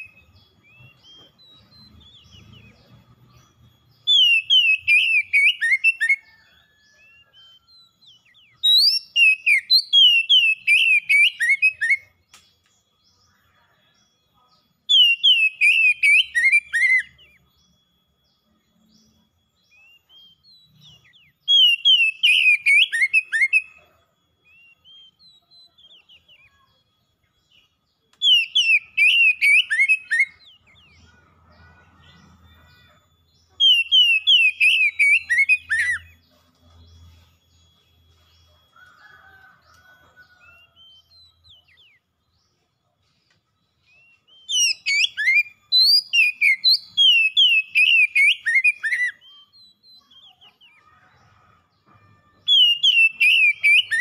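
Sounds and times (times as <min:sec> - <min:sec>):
bird singing whistled notes: 0:00.0 - 0:42.6, 0:43.5 - 0:51.5, 0:52.2 - 0:54.0.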